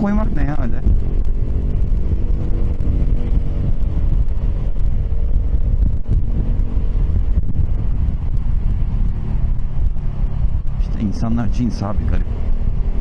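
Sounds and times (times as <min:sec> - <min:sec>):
scooter engine running: 0:00.0 - 0:13.0
wind buffeting microphone: 0:00.0 - 0:13.0.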